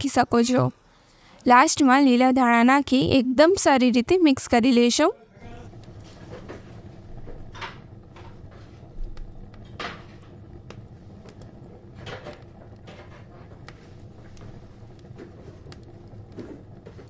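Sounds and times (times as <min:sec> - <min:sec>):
low hum: 0:00.2 - 0:17.0.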